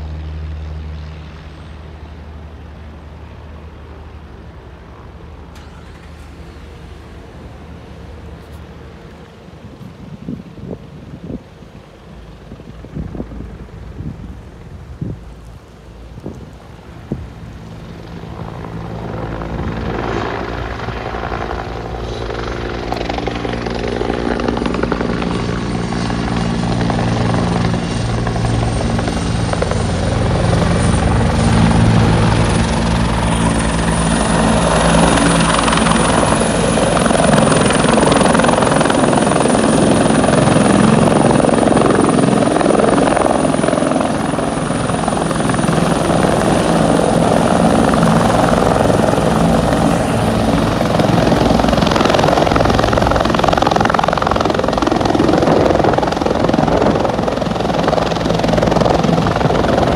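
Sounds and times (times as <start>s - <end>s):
helicopter rotor beat: 0.0s - 59.9s
high turbine whine: 0.0s - 59.9s.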